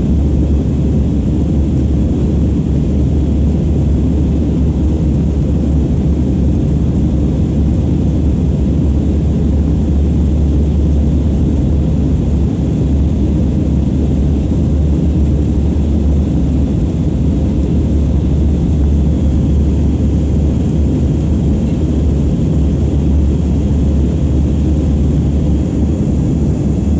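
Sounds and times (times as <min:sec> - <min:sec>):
airliner cabin engine drone: 0:00.0 - 0:26.9.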